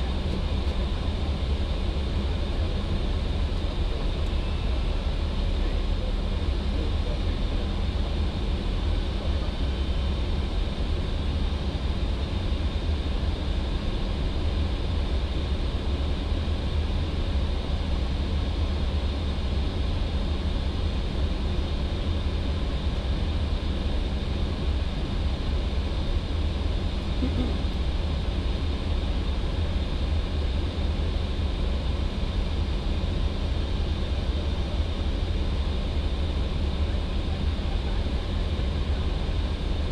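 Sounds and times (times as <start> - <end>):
airflow rush in cockpit: 0.0 - 39.9.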